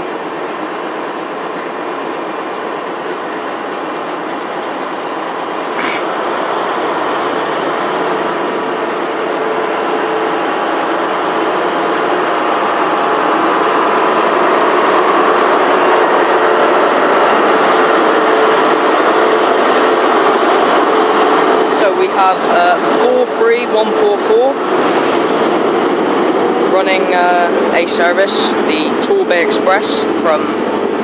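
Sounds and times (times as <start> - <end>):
diesel train engine humming: 0.0 - 31.0
wheels rumbling on rail: 0.0 - 31.0.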